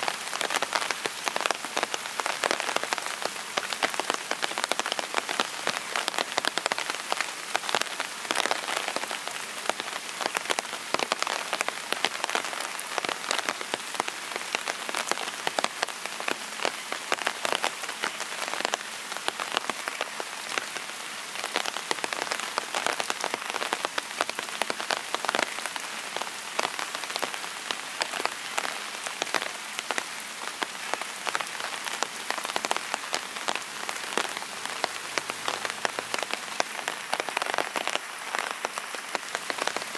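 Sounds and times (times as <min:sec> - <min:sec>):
raindrops ticking close by: 0:00.0 - 0:39.9
steady rain: 0:00.0 - 0:39.9.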